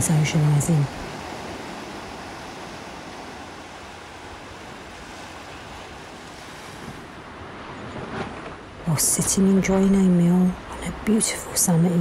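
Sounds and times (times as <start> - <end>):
sea waves and surf: 0.0 - 12.0.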